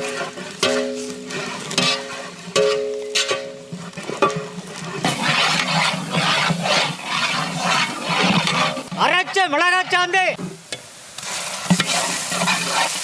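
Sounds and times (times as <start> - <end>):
onions sizzling in oil: 0.0 - 13.0
spoon scraping pan: 0.0 - 13.0.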